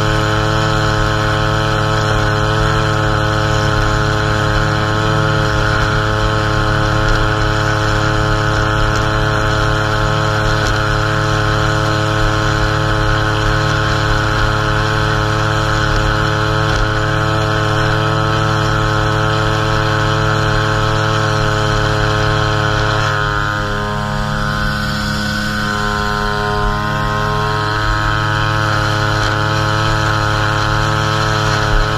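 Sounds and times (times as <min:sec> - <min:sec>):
string trimmer engine whine: 0:00.0 - 0:31.9.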